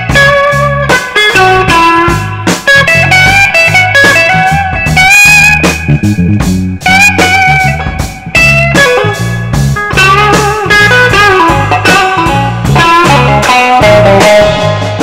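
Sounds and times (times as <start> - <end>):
drum kit: 0.0 - 15.0
electric guitar solo: 0.0 - 15.0
rhythm guitar: 0.0 - 15.0.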